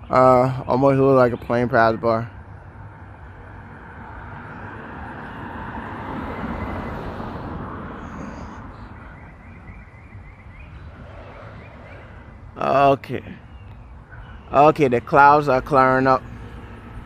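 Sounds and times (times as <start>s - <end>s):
aircraft passing overhead: 2.1s - 17.0s.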